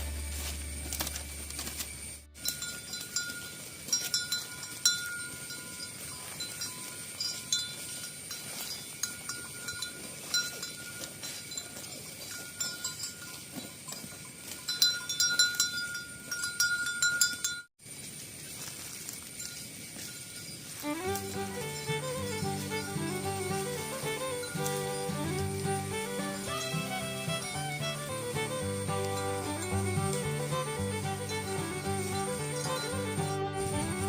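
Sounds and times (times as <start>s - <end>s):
cow bells clanking: 2.4s - 17.7s, 18.9s - 34.0s.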